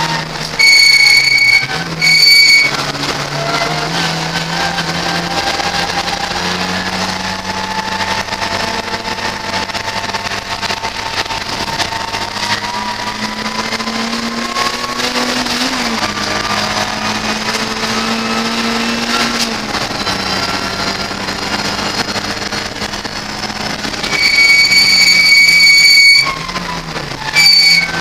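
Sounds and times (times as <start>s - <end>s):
race car engine at high revs: 0.0s - 28.0s
wind and road noise: 0.0s - 28.0s.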